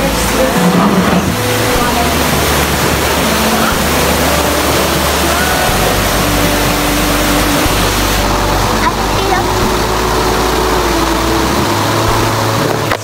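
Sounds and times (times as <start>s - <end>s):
background music: 0.0s - 13.0s
rushing water: 0.0s - 13.0s.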